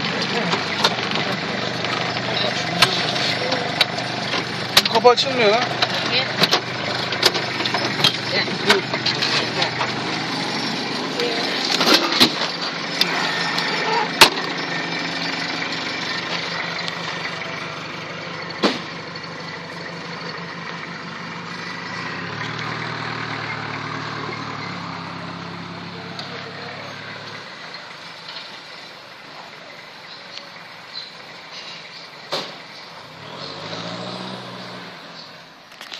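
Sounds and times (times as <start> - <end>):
engine revving: 0.0 - 31.7, 32.3 - 35.9
engine idling: 0.0 - 33.2.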